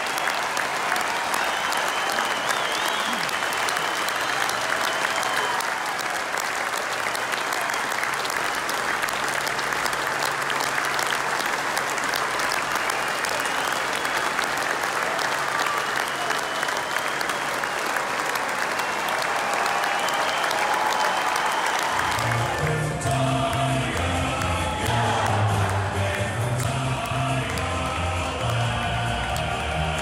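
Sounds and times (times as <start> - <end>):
stadium crowd applauding: 0.0 - 30.0.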